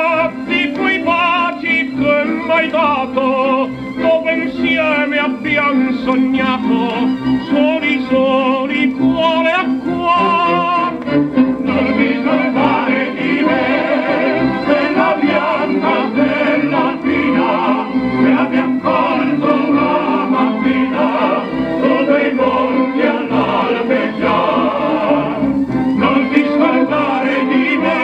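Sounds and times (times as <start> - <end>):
old song record playing: 0.0 - 28.0.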